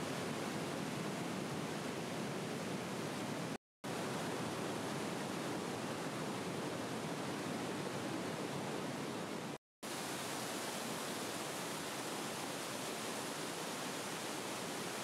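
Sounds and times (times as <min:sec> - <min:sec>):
rushing white water: 0:00.0 - 0:15.0.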